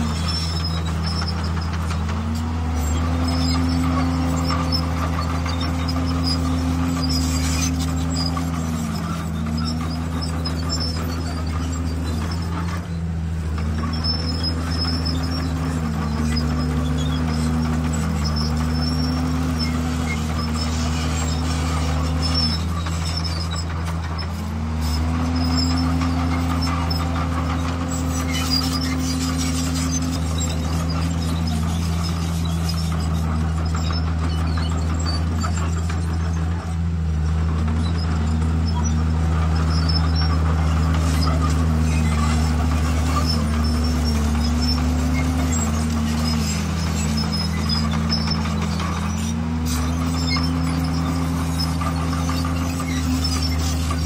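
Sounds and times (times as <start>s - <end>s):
bulldozer diesel engine: 0.0s - 54.0s.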